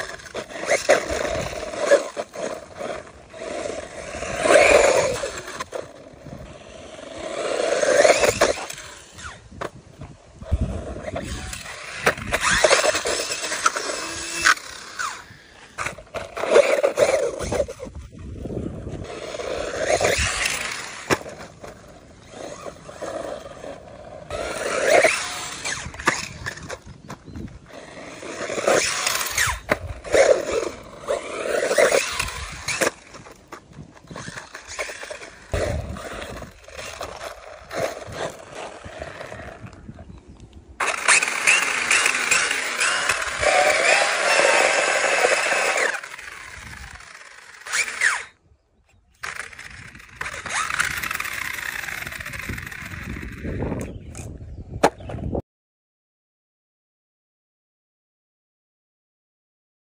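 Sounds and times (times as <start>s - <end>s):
rc car motor whining: 0.0s - 9.7s, 10.4s - 54.4s
tyres scrabbling on gravel: 0.0s - 9.8s, 10.4s - 48.3s, 49.2s - 55.1s
wheels spinning up: 0.0s - 55.3s.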